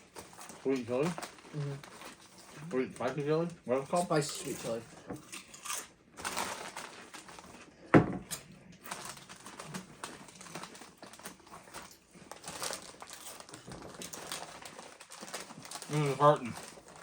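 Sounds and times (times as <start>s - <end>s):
chip bags crinkling: 0.0s - 7.7s, 8.7s - 17.0s.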